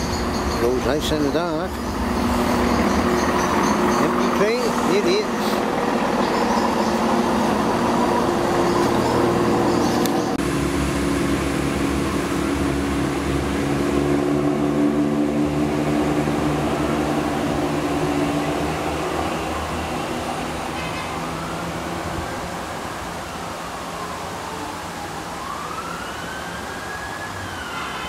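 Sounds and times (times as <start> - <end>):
train diesel engines droning: 0.0 - 25.3.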